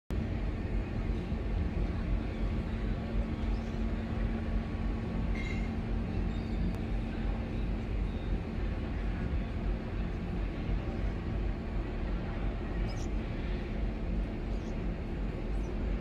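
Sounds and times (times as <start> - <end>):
low engine rumble: 0.1 - 16.0.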